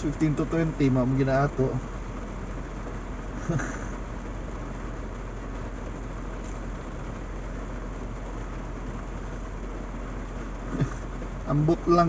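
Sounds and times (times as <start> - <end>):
engine and road rumble: 0.0 - 12.0
hiss of rain: 0.0 - 12.0.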